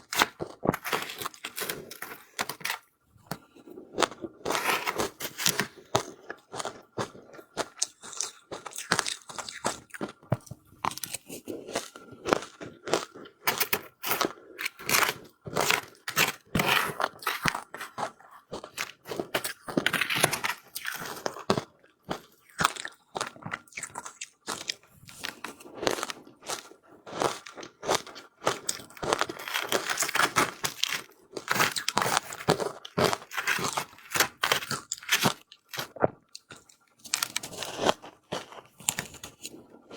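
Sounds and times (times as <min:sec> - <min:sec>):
ice being chewed crunching: 0:00.0 - 0:39.9.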